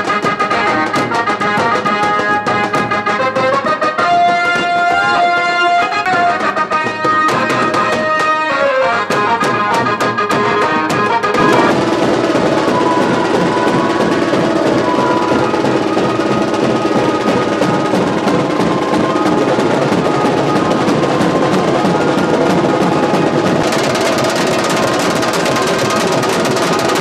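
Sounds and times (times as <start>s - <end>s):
fast continuous drumming: 0.0s - 8.5s, 9.1s - 27.0s.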